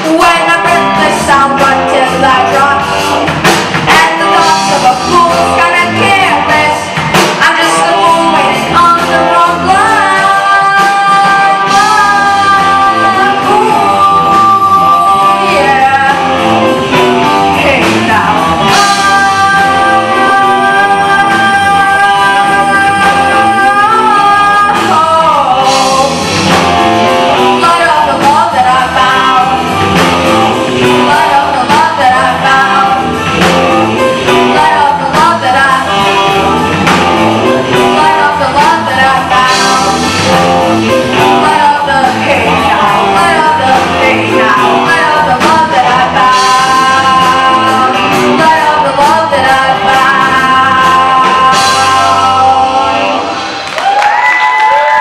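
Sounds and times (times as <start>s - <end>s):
young person singing: 0.0s - 53.5s
bass guitar: 0.0s - 55.0s
drum kit: 0.0s - 55.0s
electric guitars: 0.0s - 55.0s.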